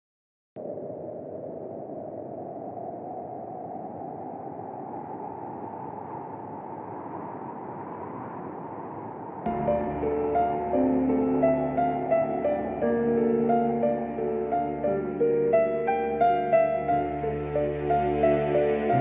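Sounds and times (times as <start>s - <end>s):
muffled rushing noise: 0.6s - 19.0s.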